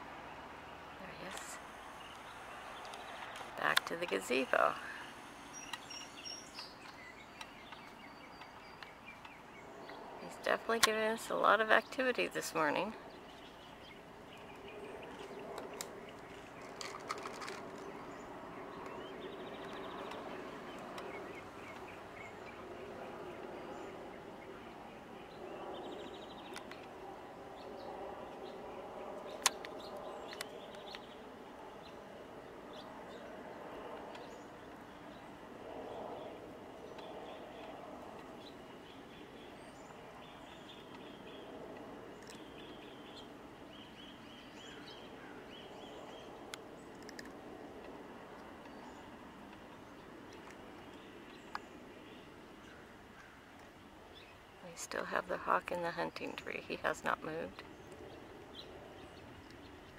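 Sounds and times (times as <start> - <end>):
background noise: 0.0 - 59.9
birds chirping: 0.0 - 59.9.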